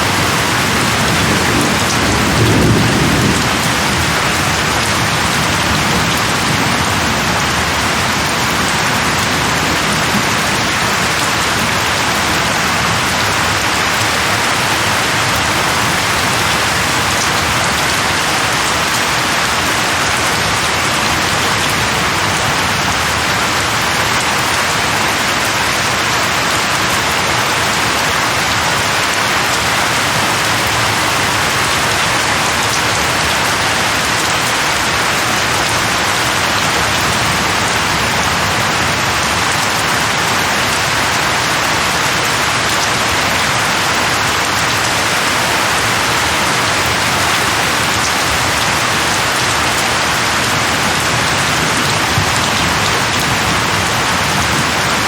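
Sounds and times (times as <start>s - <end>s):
dense rain pattering: 0.0s - 55.0s.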